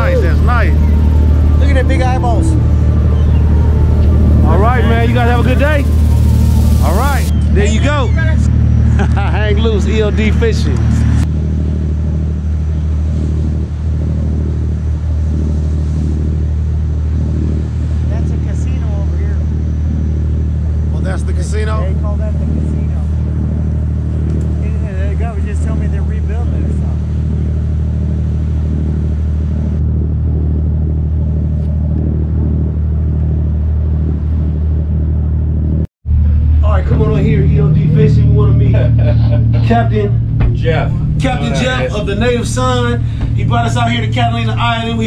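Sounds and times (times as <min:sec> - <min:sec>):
water rushing along hull: 0:00.0 - 0:34.9, 0:36.1 - 0:45.0
boat engine droning: 0:00.0 - 0:45.0.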